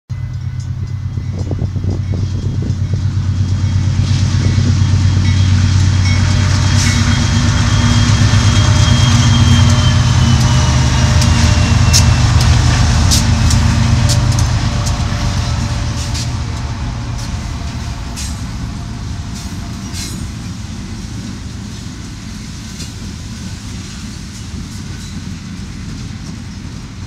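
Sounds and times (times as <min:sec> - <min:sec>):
diesel locomotive engines droning: 0:00.1 - 0:27.0
train wheels clicking on rails: 0:00.2 - 0:27.0.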